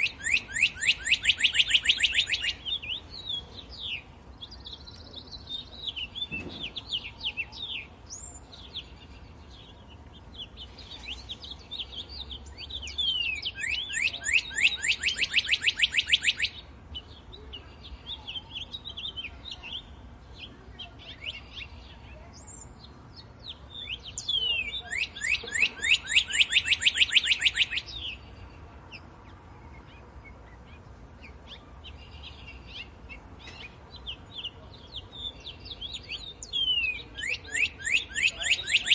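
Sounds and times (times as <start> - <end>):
fast trilled bird song: 0.0 - 38.9
songbirds chirping: 0.0 - 38.9.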